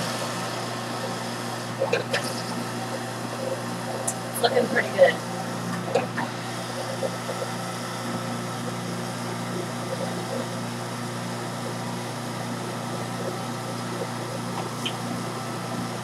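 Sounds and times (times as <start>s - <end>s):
electric juicer motor humming: 0.0s - 16.0s.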